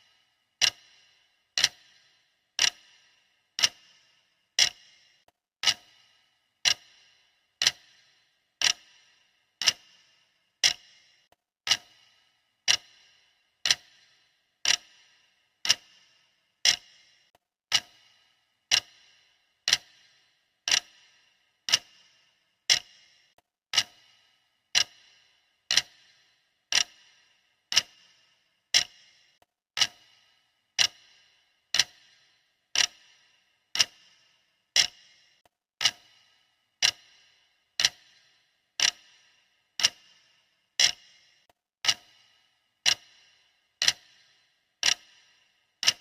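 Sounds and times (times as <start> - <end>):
timer ticking: 0.0 - 46.0.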